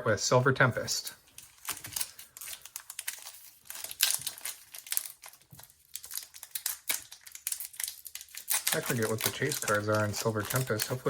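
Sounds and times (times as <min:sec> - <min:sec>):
foil wrapper crinkling: 0:00.8 - 0:11.0.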